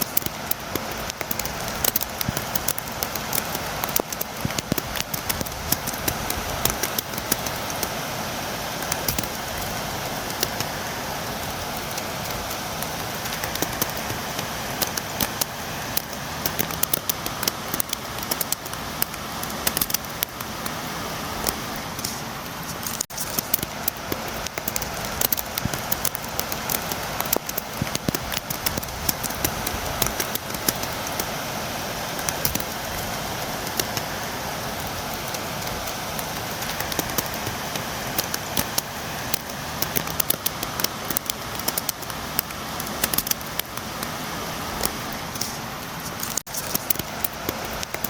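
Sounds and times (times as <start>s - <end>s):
rainfall: 0.0s - 48.0s.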